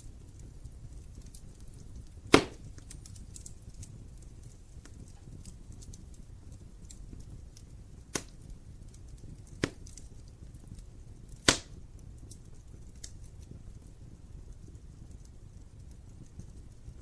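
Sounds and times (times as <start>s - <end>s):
sharp pops of burning wood: 0.0s - 13.7s
faint crackles of fire: 0.0s - 17.0s
low rumble of flame: 0.0s - 17.0s.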